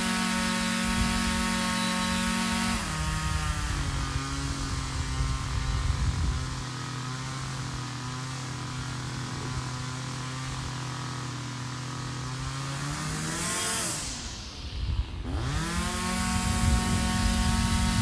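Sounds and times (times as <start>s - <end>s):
small two-stroke engine running: 0.0s - 18.0s.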